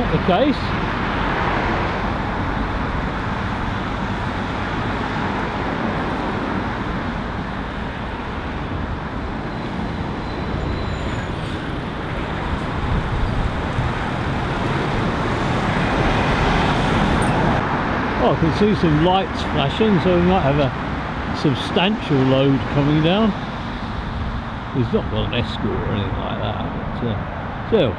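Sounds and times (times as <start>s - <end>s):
road traffic: 0.0s - 27.9s.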